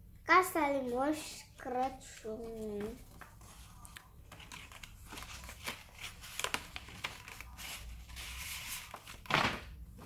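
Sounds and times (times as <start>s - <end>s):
paper rustling and crinkling: 1.6s - 10.0s.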